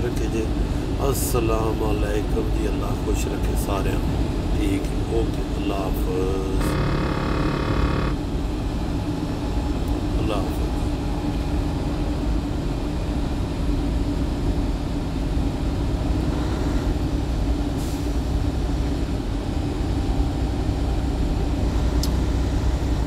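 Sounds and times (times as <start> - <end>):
truck engine drone: 0.0 - 23.0.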